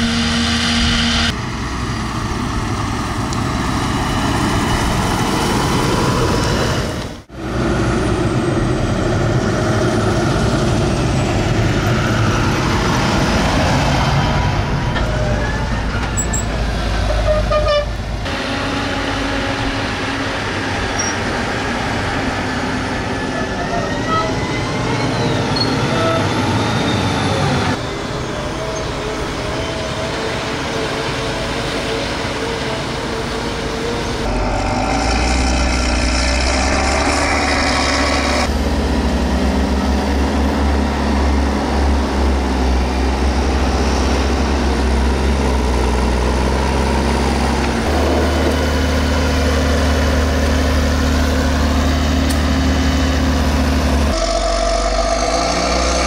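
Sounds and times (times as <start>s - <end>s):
tractor diesel engines droning: 0.0s - 56.0s.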